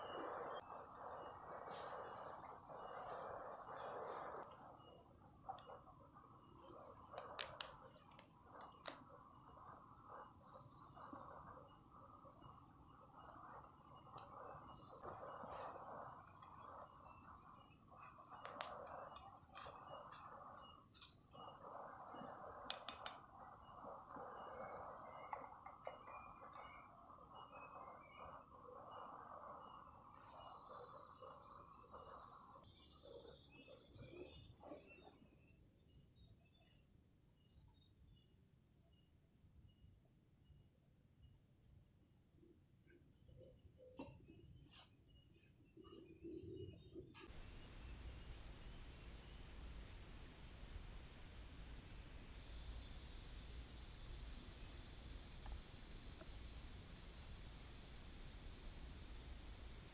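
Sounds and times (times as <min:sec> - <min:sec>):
crickets chirring: 0:00.0 - 0:37.9, 0:41.3 - 0:59.9.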